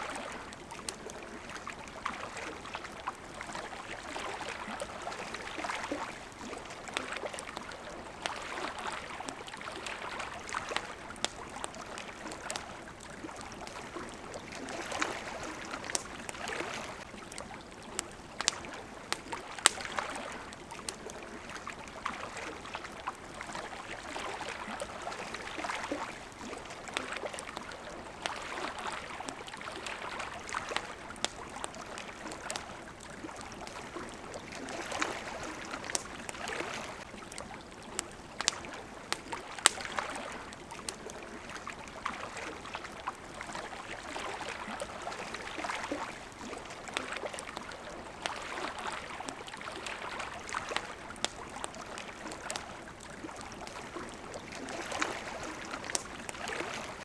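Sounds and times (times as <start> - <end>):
campfire crackling and popping: 0.0 - 57.0
small waves lapping at shore: 0.0 - 57.0.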